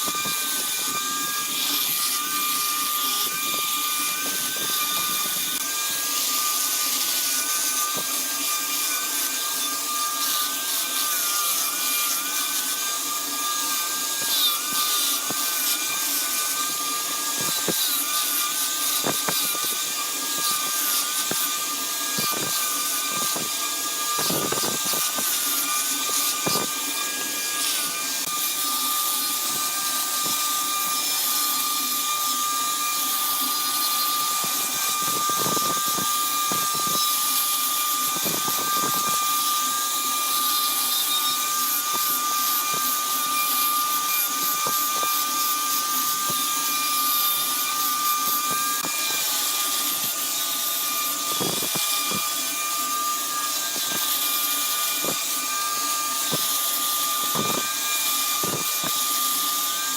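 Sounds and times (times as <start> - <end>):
tool cutting spinning wood: 0.0 - 59.9
wood lathe whine: 0.0 - 59.9.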